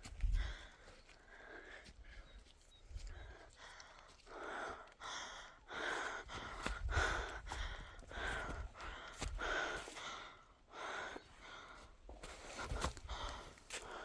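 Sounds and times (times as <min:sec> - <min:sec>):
person breathing hard: 0:00.0 - 0:02.3, 0:03.0 - 0:14.0.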